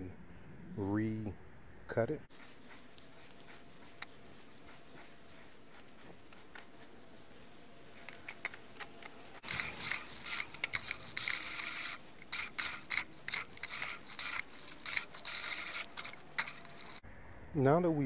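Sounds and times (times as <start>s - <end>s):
push reel mower cutting grass: 2.4s - 17.0s.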